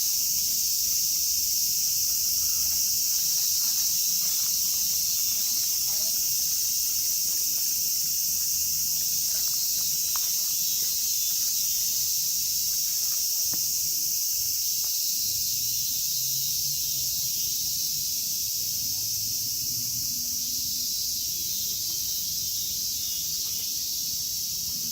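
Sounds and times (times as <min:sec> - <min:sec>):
cicadas buzzing: 0:00.0 - 0:24.9.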